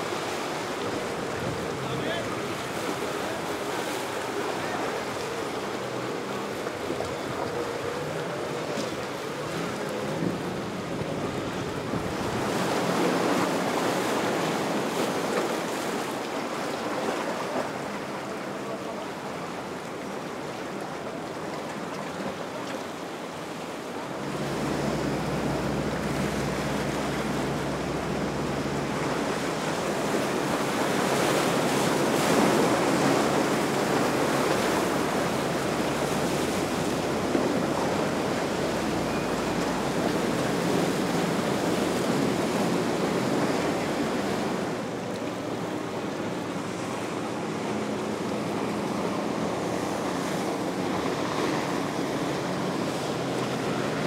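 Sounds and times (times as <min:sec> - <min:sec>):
boat engine hum: 0:00.0 - 0:54.0
ocean waves and surf: 0:00.0 - 0:54.0.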